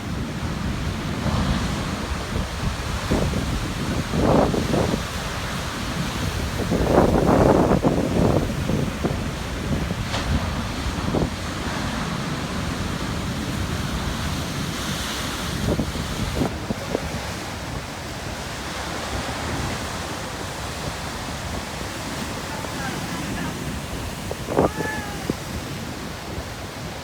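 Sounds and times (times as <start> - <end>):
surf over rocky shore: 0.0 - 27.0
wind on the microphone: 0.0 - 27.0.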